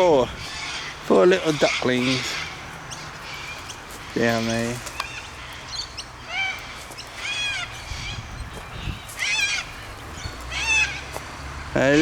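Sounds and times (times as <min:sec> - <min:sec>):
birds harsh calls: 0:00.0 - 0:12.0.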